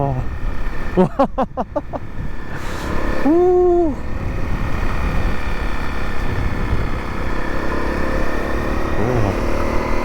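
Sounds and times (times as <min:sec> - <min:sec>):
wind rumble on microphone: 0:00.0 - 0:08.9
motorcycle running: 0:00.0 - 0:10.0.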